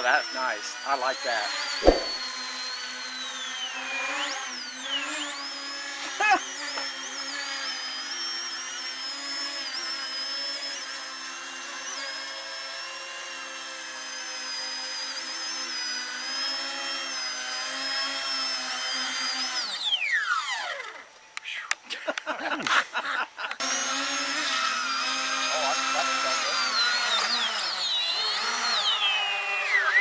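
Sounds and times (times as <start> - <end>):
model plane motors whining: 0.0 - 21.8, 23.4 - 30.0.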